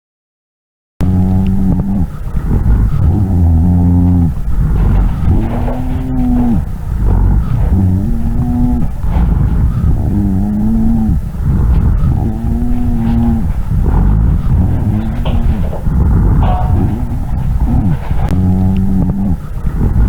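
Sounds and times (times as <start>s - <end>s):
lung sounds through stethoscope: 1.0s - 20.0s.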